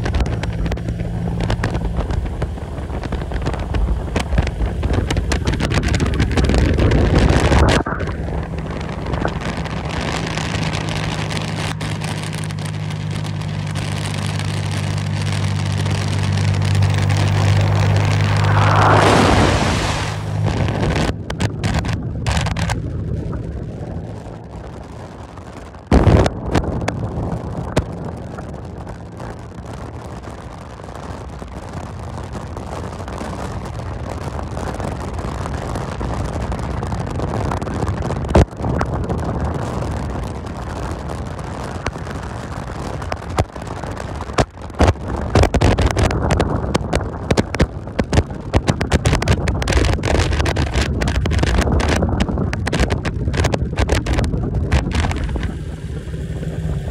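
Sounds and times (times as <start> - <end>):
motorcycle engine running: 0.0 - 18.6, 20.2 - 56.9
wind on microphone: 0.0 - 56.9.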